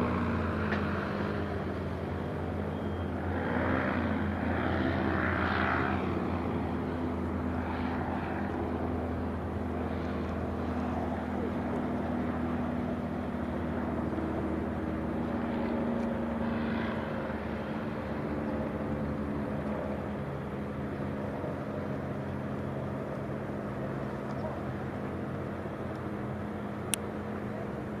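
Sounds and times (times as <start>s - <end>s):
propeller engine droning: 0.0s - 28.0s.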